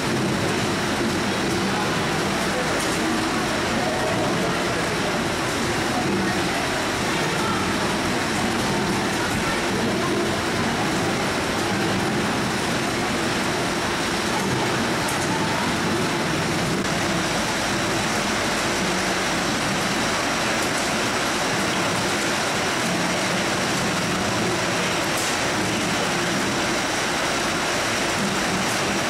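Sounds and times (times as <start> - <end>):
conveyor machinery din: 0.0 - 29.0.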